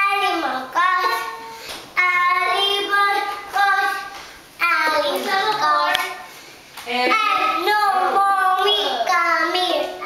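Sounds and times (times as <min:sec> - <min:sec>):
girl singing: 0:00.0 - 0:06.3, 0:06.9 - 0:10.0.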